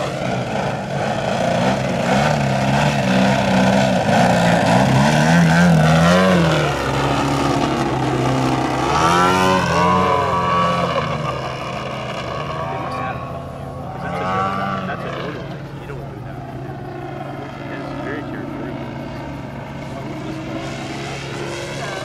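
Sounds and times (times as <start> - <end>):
model plane engine and propeller: 0.0 - 22.0.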